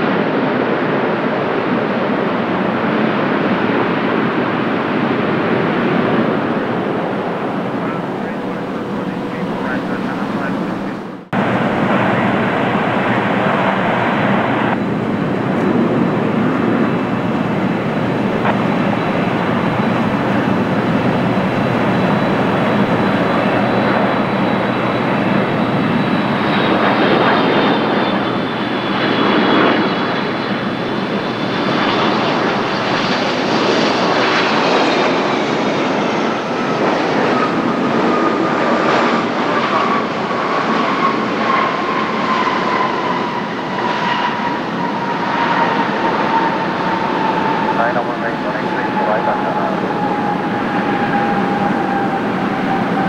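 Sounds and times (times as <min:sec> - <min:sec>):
jet engine rumble with high whine: 0:00.0 - 0:53.0.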